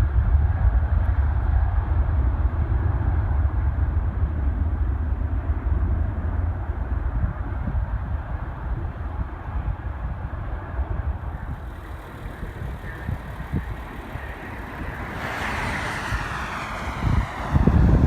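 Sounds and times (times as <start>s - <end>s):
steady low rumble: 0.0s - 18.0s
jet airliner roar: 0.2s - 18.0s.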